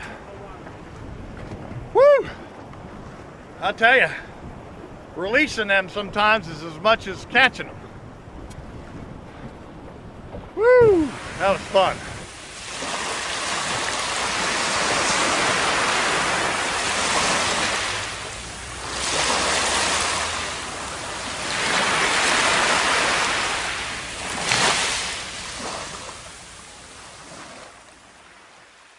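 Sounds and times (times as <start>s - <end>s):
surf washing on beach: 0.0s - 28.9s.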